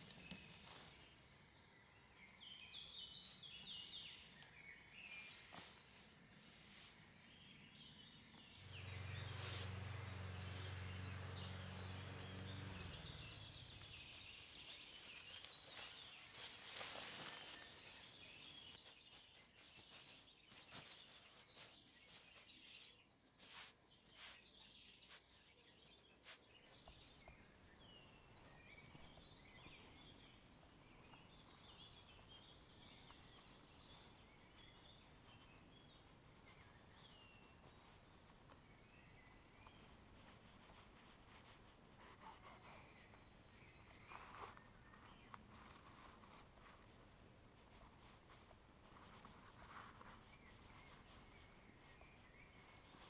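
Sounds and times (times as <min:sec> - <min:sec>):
faint bird chirps: 0:00.0 - 0:53.0.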